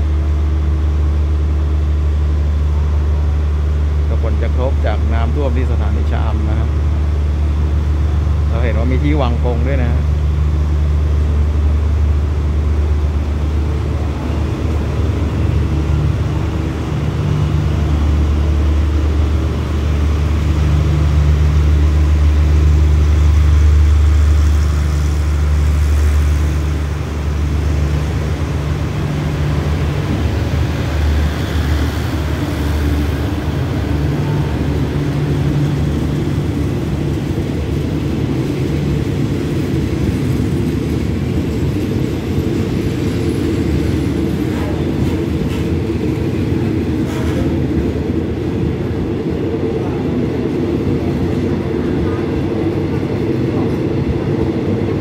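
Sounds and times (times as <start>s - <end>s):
train rumbling slowly: 0.0s - 55.0s.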